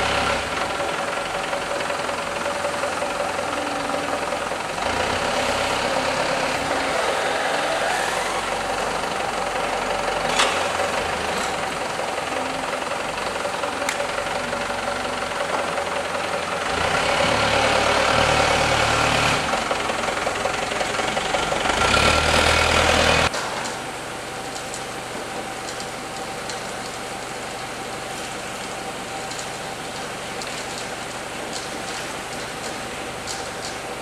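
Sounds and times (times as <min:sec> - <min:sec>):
forklift engine running: 0:00.0 - 0:34.0
machine hum: 0:00.0 - 0:34.0.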